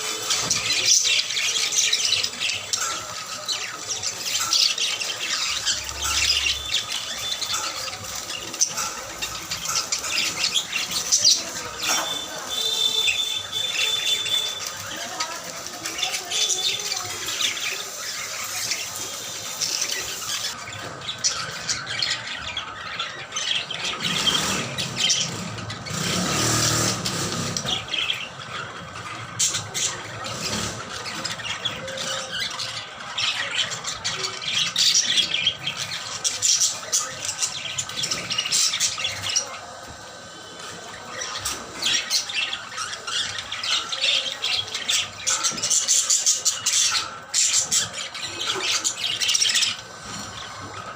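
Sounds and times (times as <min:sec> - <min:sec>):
parrots squawking: 0:00.0 - 0:50.9.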